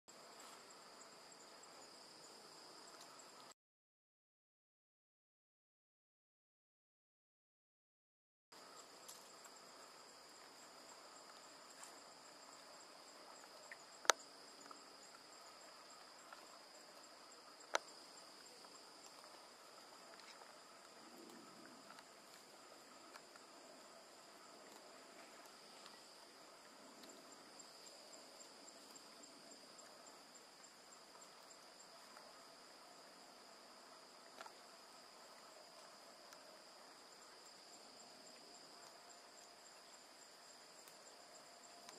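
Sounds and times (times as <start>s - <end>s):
insects chirring: 0.1s - 3.5s, 8.6s - 41.9s.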